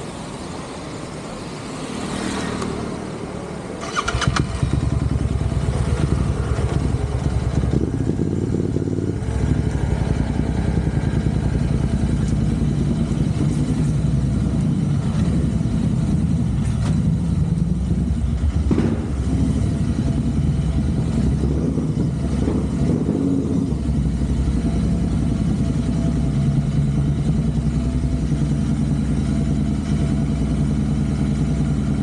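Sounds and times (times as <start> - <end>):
motorcycle engine running: 3.8 - 32.0.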